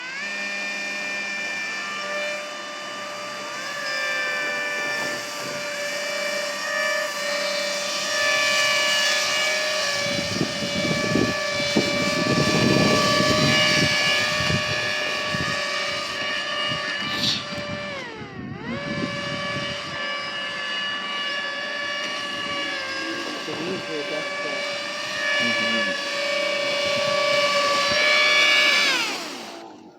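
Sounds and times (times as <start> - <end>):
hovercraft motors whining: 0.0 - 29.9.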